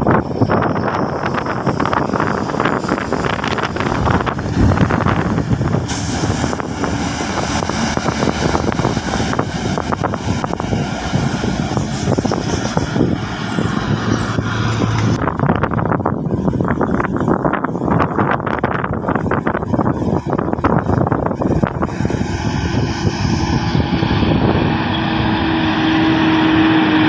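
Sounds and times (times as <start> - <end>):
bus and truck passing: 0.0 - 27.0.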